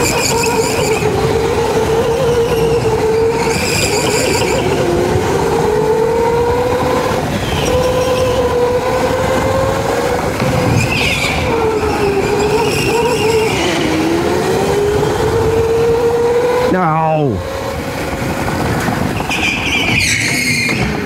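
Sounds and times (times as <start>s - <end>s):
electric motor whining: 0.0s - 19.2s
tyre and track noise: 0.0s - 21.0s.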